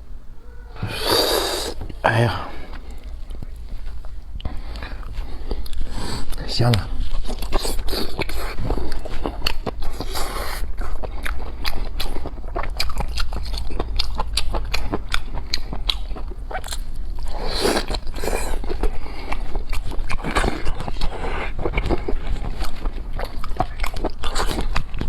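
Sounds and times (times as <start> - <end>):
person chewing crunchy food: 0.4 - 25.0.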